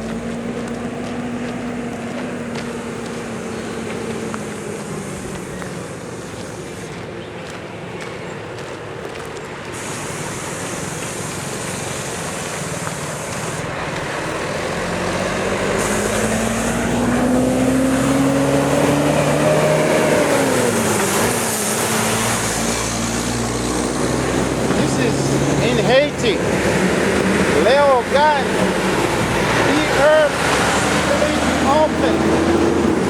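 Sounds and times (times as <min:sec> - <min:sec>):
outdoor noise rushing: 0:00.0 - 0:33.0
vehicle engine approaching: 0:00.0 - 0:33.0.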